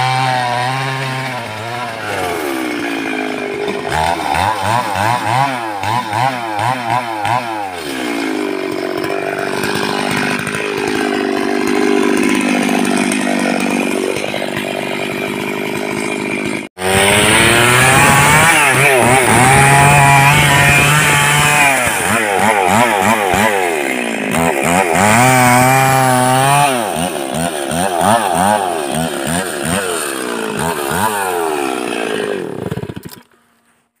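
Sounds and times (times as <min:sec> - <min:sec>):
chainsaw cutting log: 0:00.0 - 0:33.8.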